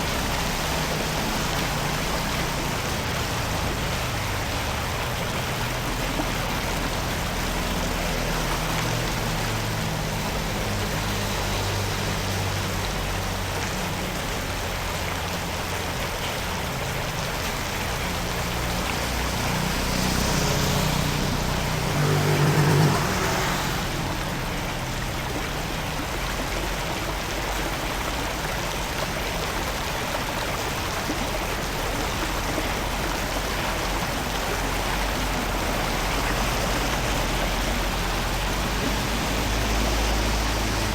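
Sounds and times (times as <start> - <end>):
floodwater running: 0.0 - 40.9.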